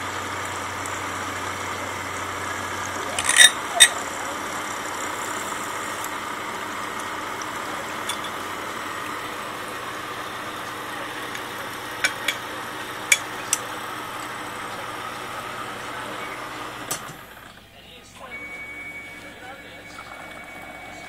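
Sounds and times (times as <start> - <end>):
milling machine hiss and whir: 0.0 - 17.7.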